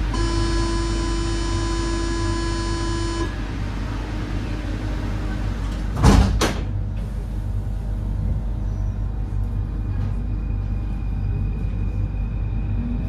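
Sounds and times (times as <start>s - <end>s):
train rumble and hum: 0.0s - 13.0s.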